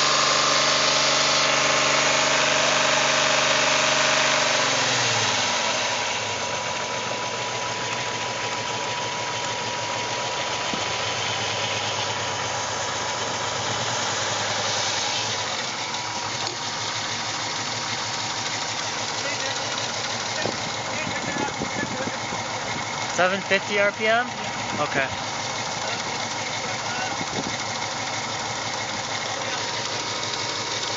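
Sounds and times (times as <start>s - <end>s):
car engine misfiring at idle: 0.0s - 30.9s.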